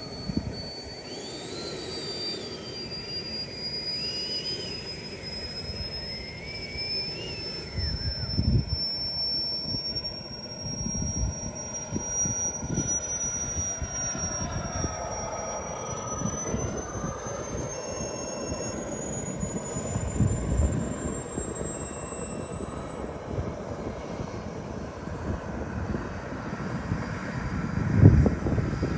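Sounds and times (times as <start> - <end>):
electric motors and propellers: 0.0 - 28.9
high turbine whine: 0.0 - 28.9
lower whine rising and falling: 0.0 - 28.9.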